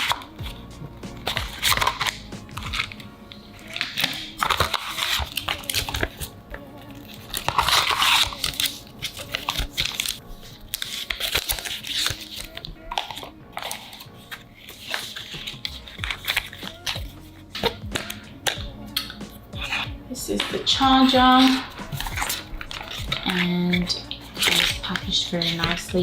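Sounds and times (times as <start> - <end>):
quiet background music: 0.0 - 26.0
packaging crinkling and tearing: 3.6 - 6.3, 7.2 - 25.9.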